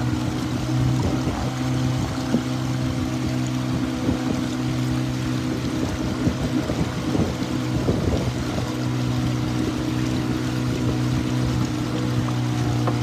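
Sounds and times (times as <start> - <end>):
motorboat engine droning: 0.0 - 13.0
water noise: 0.0 - 13.0
wind: 0.0 - 13.0.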